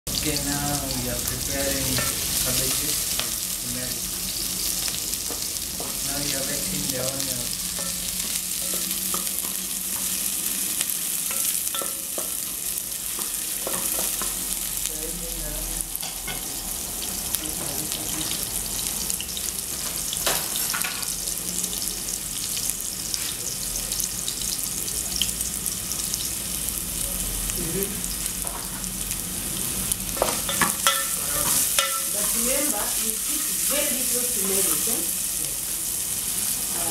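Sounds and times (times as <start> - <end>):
onions frying hiss: 0.1 - 36.9.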